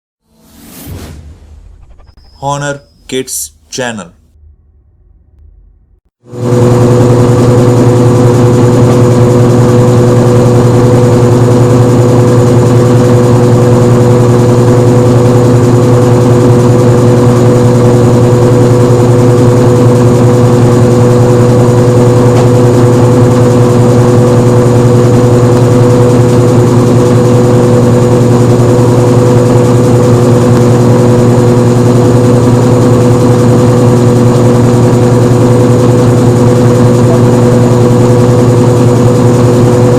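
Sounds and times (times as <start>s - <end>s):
washing machine spinning: 6.3s - 39.9s.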